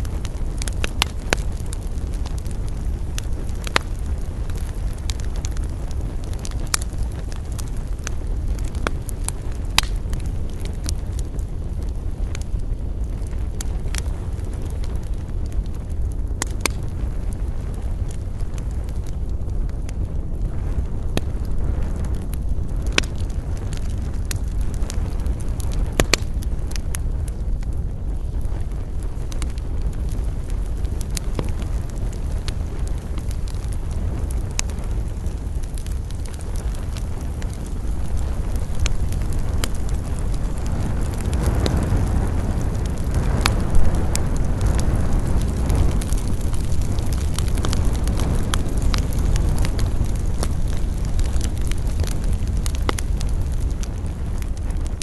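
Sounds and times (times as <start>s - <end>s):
campfire crackling: 0.0s - 55.0s
fire popping: 0.0s - 55.0s
low fire rumble: 0.0s - 55.0s.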